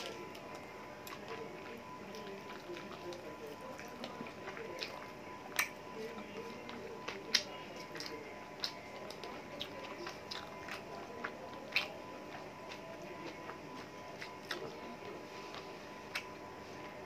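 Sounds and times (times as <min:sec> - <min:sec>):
chewing with wet clicks: 0:00.0 - 0:17.0
lip smacks: 0:00.0 - 0:17.0.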